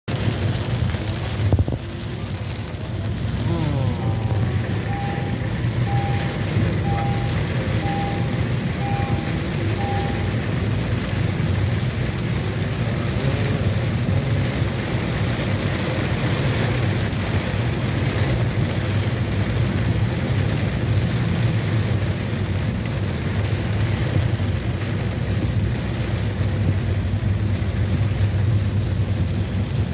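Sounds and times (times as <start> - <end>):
heavy rain pouring: 0.1 - 29.9
vehicle rumble: 0.1 - 29.9.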